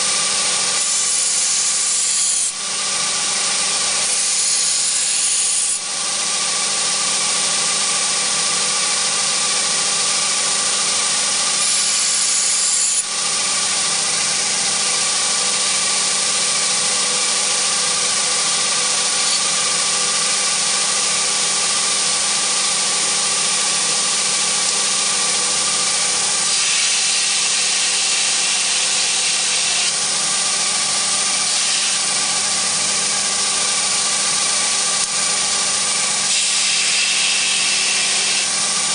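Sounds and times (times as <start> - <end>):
belt grinder running: 0.0 - 38.9.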